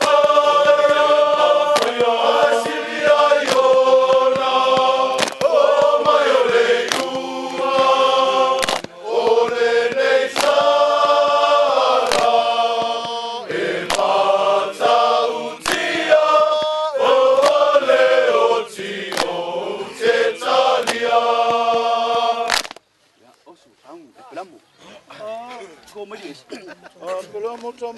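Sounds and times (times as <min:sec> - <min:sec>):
men singing in chorus: 0:00.0 - 0:22.6.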